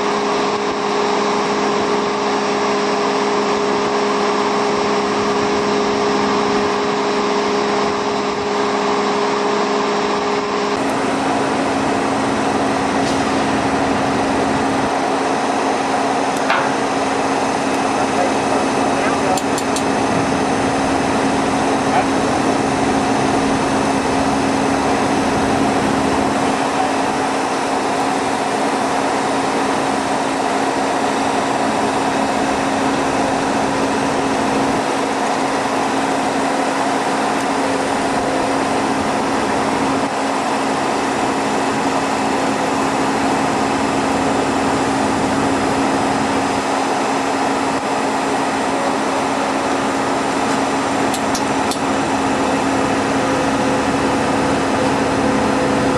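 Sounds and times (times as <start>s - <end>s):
mechanical drone with low hum: 0.0s - 55.9s.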